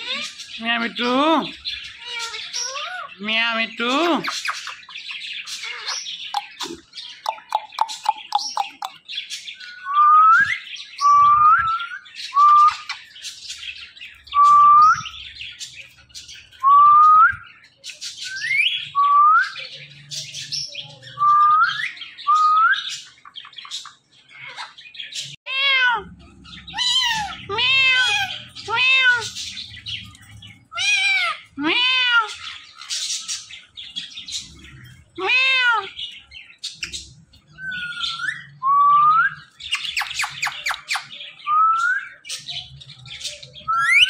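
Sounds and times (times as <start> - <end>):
parakeets squawking and chirping: 0.0 - 16.6, 17.4 - 44.0.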